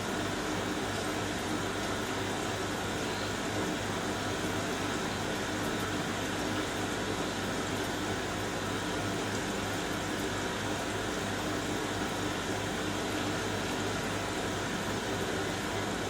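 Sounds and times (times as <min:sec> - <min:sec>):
washing machine low hum: 0:00.0 - 0:16.0.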